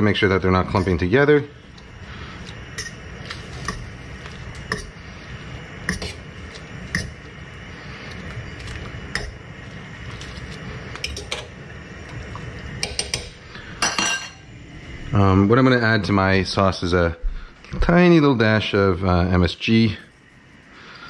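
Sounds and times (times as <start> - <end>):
boiling water hiss: 0.0 - 21.0.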